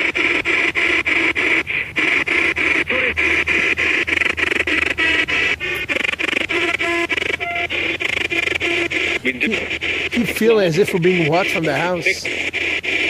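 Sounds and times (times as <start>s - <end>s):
radio static chopping: 0.0s - 13.0s.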